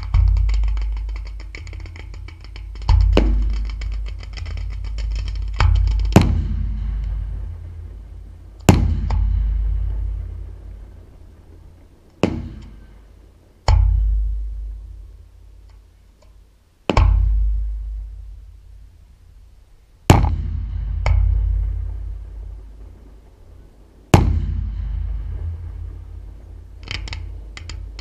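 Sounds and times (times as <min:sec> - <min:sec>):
firework shells bursting: 0:00.0 - 0:19.3, 0:20.0 - 0:28.0
faint crackles: 0:00.0 - 0:28.0
low rumbling echo: 0:00.0 - 0:28.0.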